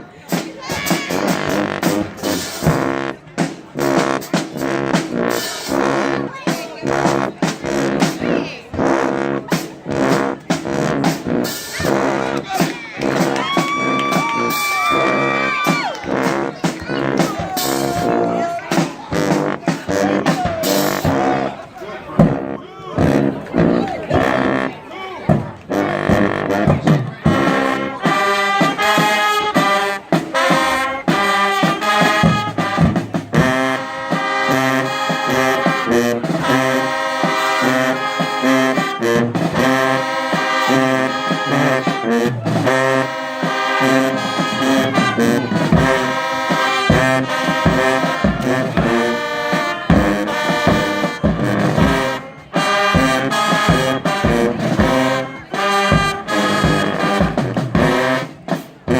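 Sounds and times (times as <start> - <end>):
brass band playing: 0.0 - 58.9.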